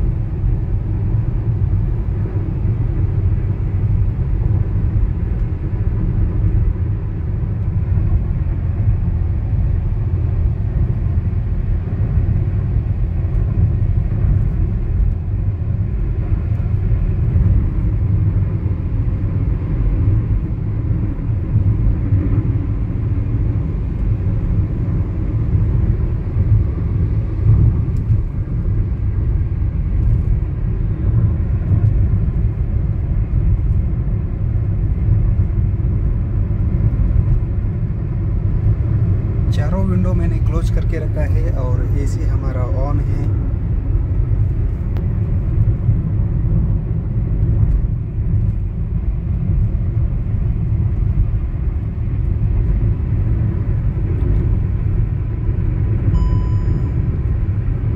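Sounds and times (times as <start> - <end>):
tyre road noise inside car: 0.0 - 57.9.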